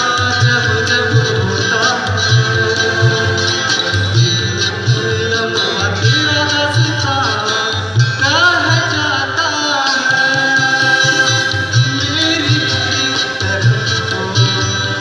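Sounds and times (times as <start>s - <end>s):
keyboard: 0.0s - 15.0s
man singing: 0.0s - 15.0s.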